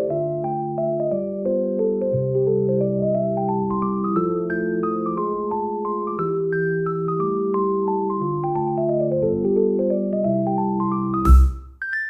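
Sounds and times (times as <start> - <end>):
gentle keyboard music: 0.0 - 12.0.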